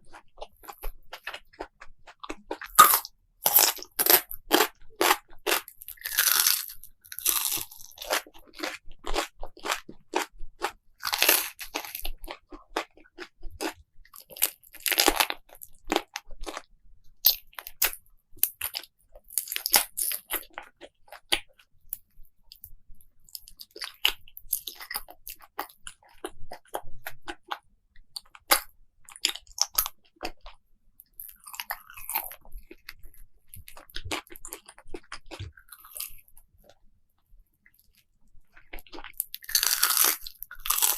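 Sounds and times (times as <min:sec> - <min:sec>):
crisp food crunching: 0:00.0 - 0:30.6, 0:31.2 - 0:36.8, 0:37.7 - 0:40.9.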